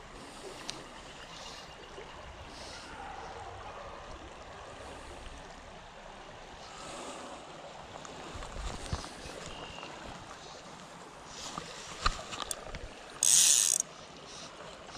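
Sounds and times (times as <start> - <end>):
creek water running over riffle: 0.0 - 14.9.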